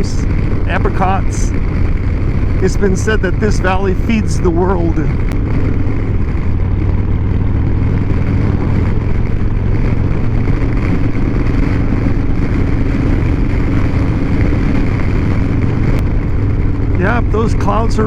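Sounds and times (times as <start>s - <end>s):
motorcycle engine drone: 0.0s - 18.0s
rushing noise: 0.0s - 18.0s.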